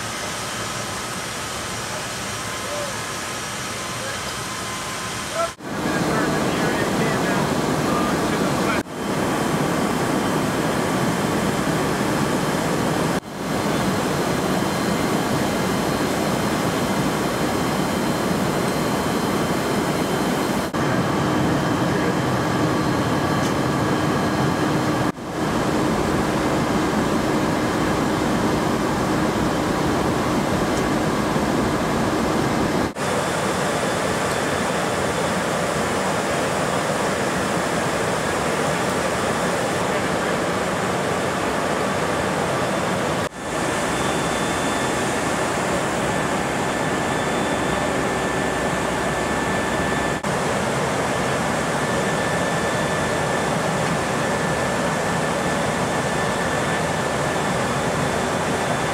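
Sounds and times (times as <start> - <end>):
aircraft engine and airflow noise: 0.0 - 58.9.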